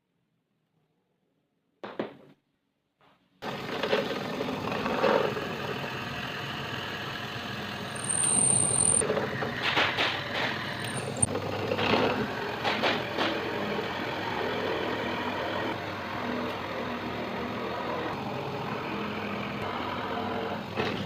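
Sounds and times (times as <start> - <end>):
machine running: 3.4 - 20.7.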